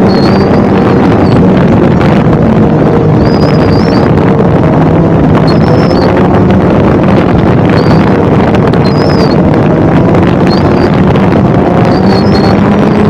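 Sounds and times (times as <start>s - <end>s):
snowmobile engine running: 0.0s - 13.0s
wind buffeting microphone: 0.0s - 13.0s.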